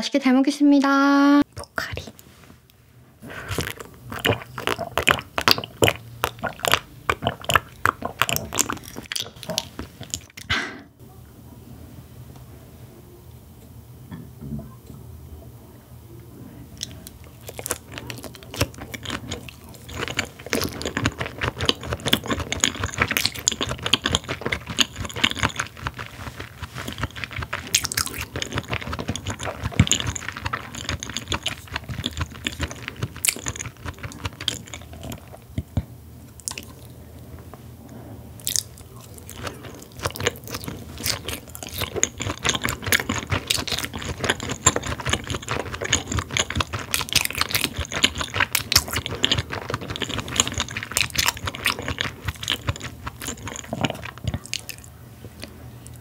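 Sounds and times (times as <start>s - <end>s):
chewing raw meat: 3.2s - 10.5s, 16.8s - 37.0s, 38.4s - 56.0s.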